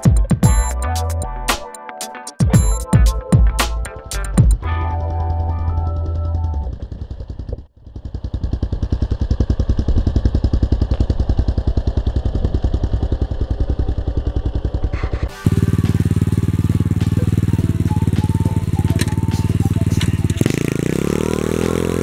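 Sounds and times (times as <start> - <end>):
motorbike engine idling: 4.1 - 22.0.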